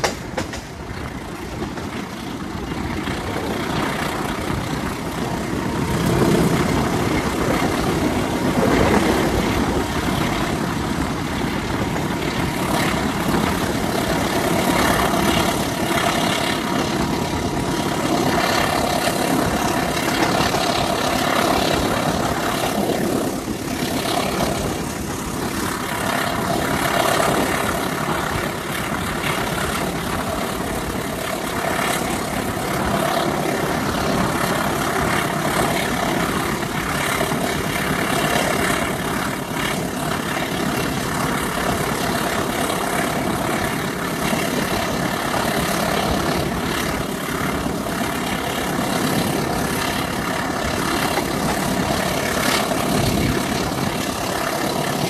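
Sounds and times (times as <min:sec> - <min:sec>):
locomotive engine running: 0:00.0 - 0:55.0
moving train rumble and hiss: 0:00.0 - 0:55.0.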